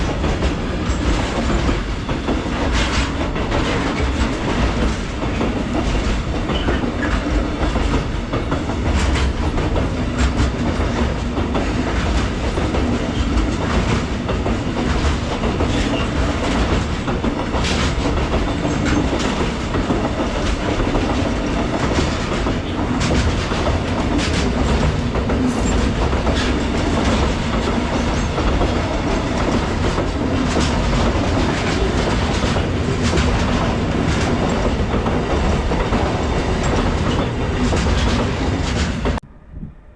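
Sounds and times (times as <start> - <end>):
freight train wagons rumbling: 0.0 - 39.9.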